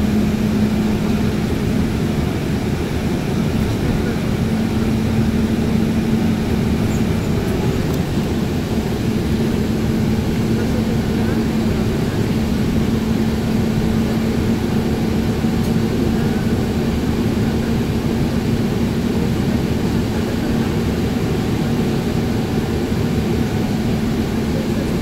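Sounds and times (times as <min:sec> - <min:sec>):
bus engine and road drone: 0:00.0 - 0:25.0
constant hum: 0:00.0 - 0:25.0.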